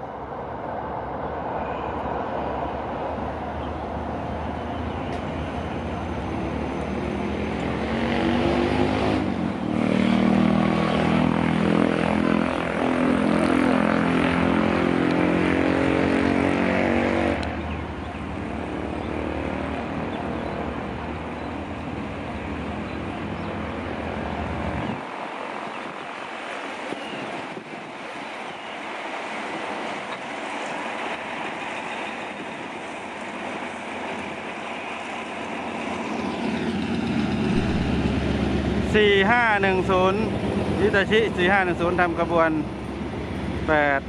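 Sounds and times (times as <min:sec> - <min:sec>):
train coaches rumbling: 0:00.0 - 0:08.3, 0:11.0 - 0:44.0
locomotive engine drone: 0:00.0 - 0:44.0.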